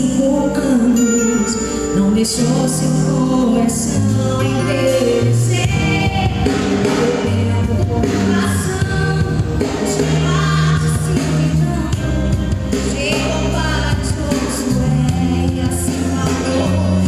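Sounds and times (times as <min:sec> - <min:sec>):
live gospel band with singing: 0:00.0 - 0:17.0.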